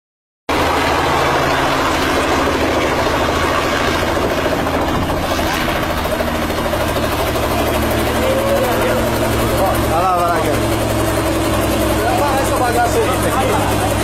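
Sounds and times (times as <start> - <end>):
helicopter engine and rotor: 0.5 - 14.0.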